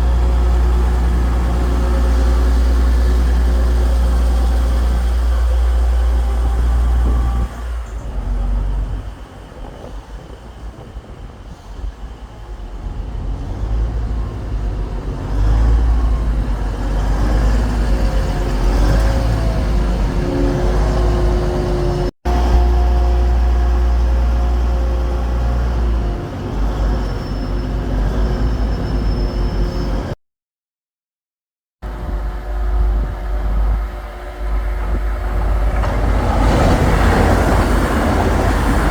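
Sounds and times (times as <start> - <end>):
diesel train engine running: 0.0 - 30.2, 31.8 - 38.9
low train rumble: 0.0 - 30.2, 31.8 - 38.9.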